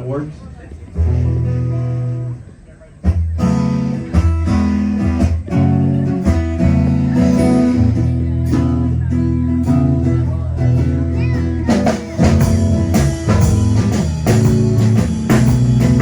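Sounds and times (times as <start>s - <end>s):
band playing blues: 0.8s - 16.0s
low bass line: 0.8s - 16.0s
strummed guitar: 0.8s - 16.0s.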